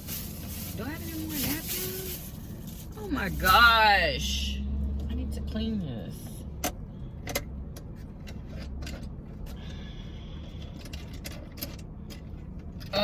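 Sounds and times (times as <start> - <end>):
car cabin hum: 0.0 - 13.0.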